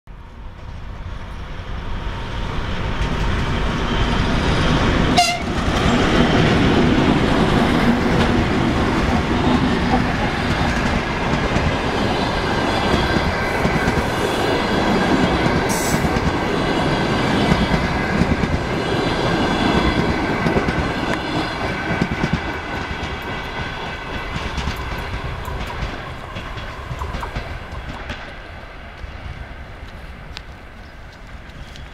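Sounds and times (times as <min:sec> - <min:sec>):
diesel locomotive engines running: 0:00.1 - 0:31.9
train wheels clattering on rails: 0:02.5 - 0:29.2.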